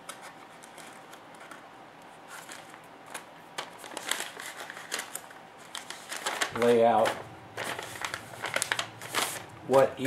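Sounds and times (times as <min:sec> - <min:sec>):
paper rustling and crinkling: 0:00.0 - 0:09.9.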